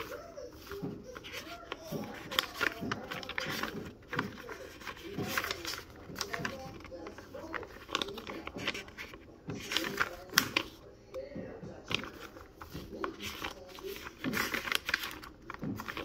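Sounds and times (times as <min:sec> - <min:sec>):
notebook pages flipping: 0:00.0 - 0:16.0.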